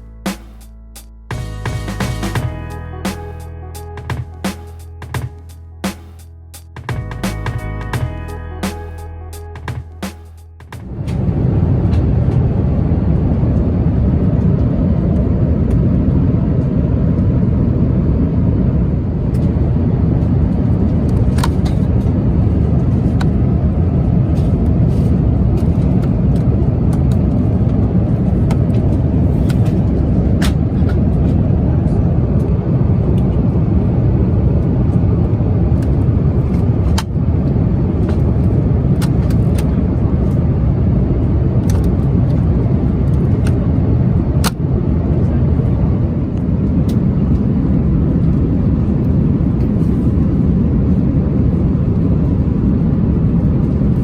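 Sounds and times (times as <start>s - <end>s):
airplane cabin engine rush: 10.1s - 54.0s.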